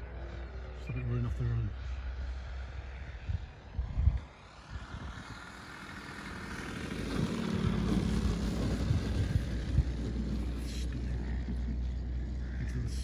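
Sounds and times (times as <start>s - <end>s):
model plane engine and propeller: 0.0s - 13.0s.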